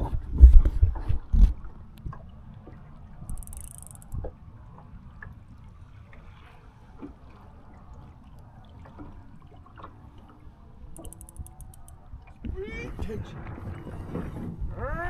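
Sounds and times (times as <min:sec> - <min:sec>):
water lapping against boat hull: 0:00.0 - 0:14.8.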